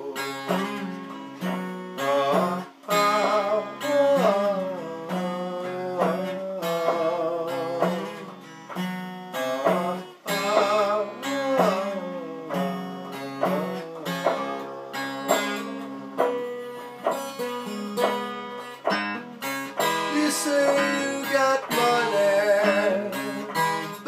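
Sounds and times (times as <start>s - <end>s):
plucked string instrument blues: 0.0s - 24.0s.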